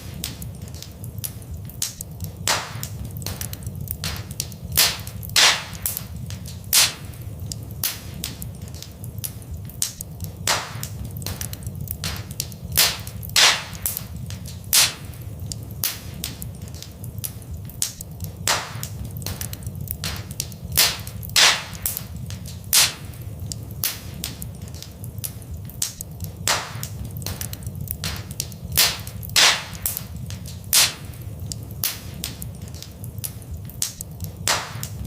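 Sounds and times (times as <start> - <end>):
fireplace fire crackling: 0.0 - 35.0
low rumble of flames: 0.0 - 35.0
sharp pops of fire: 0.0 - 35.0.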